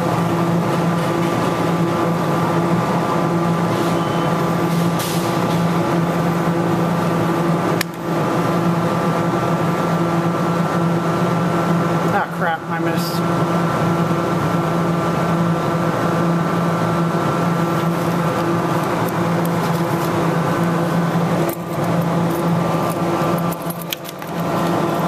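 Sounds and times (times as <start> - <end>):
claw machine electrical hum: 0.0 - 25.0.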